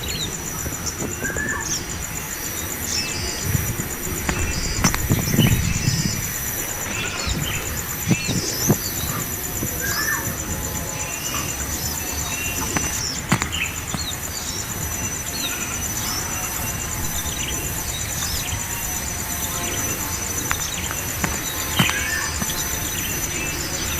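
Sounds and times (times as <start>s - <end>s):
bird chirps: 0.0s - 23.9s
high insect trill: 0.0s - 23.9s.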